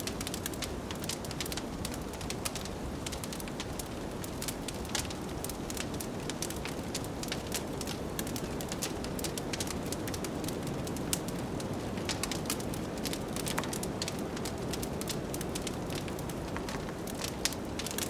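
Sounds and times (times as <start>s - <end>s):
low rumble of wind: 0.0s - 18.0s
wood fire crackling and popping: 0.0s - 18.0s.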